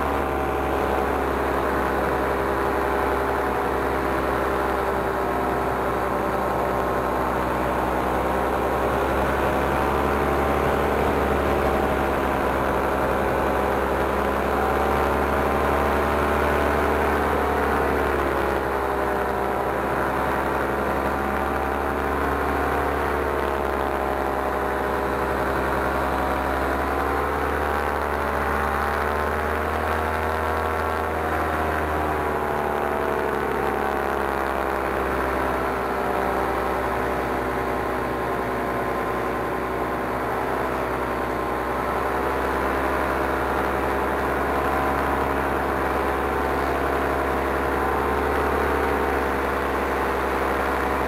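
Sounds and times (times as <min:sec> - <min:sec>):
paramotor engine and propeller: 0:00.0 - 0:51.0.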